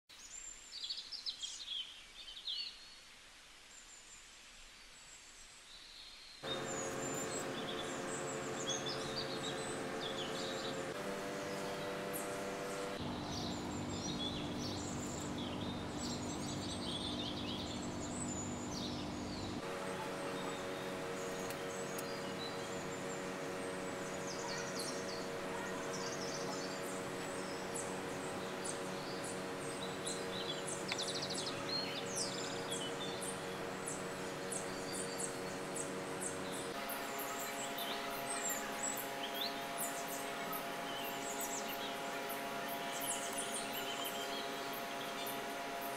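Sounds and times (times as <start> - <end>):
birds chirping: 6.4 - 45.9.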